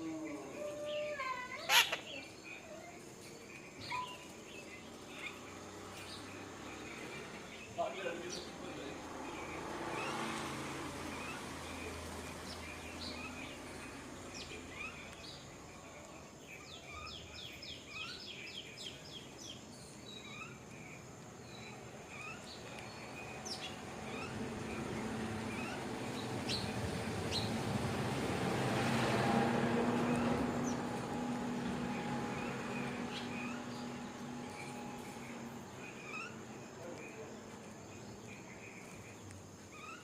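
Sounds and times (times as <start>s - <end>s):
small birds chirping: 0.0s - 28.0s, 30.0s - 40.0s.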